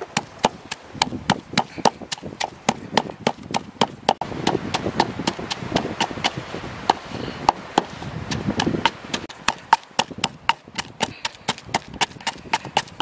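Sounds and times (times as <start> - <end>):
wooden pestle pounding in mortar: 0.0 - 13.0.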